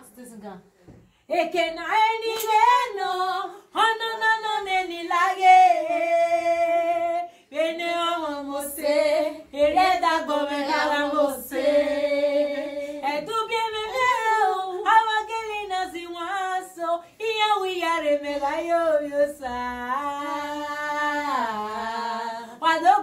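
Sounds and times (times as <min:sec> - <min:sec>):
women singing unaccompanied: 0:01.3 - 0:23.0.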